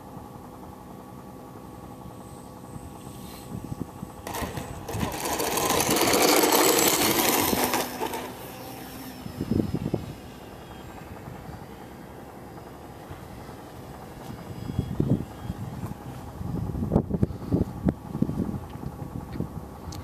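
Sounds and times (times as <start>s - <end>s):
model airplane motor whining: 0.0s - 20.0s.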